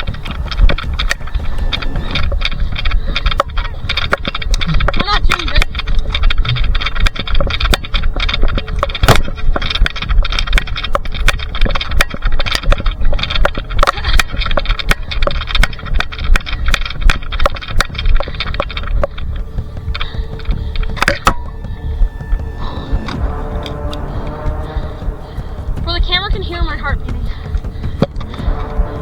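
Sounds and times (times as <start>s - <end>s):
irregular clicks: 0.0s - 29.0s
rustling of body-worn camera: 0.0s - 29.0s
steady low rumble: 0.0s - 29.0s.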